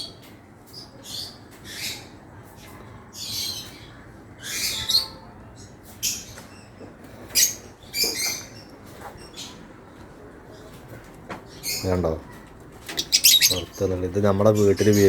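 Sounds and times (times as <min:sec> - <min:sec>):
lovebirds chirping: 0:00.0 - 0:15.0.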